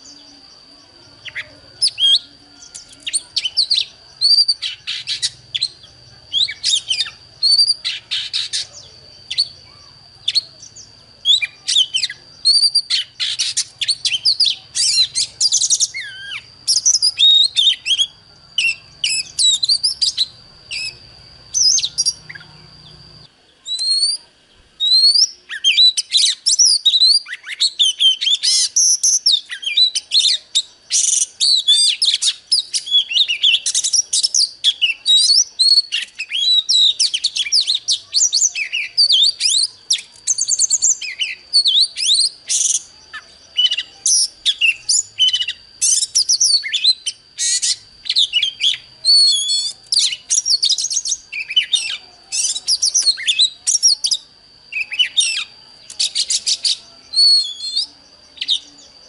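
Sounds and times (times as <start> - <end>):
bird singing varied phrases: 0.0 - 59.0.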